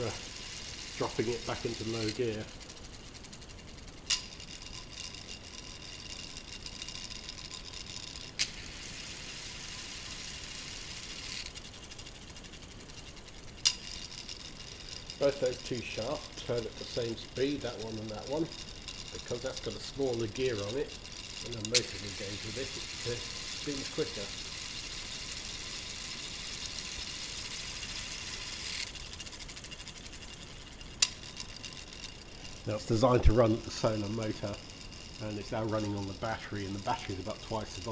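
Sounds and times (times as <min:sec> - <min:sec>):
plastic gears whirring: 0:00.0 - 0:37.9.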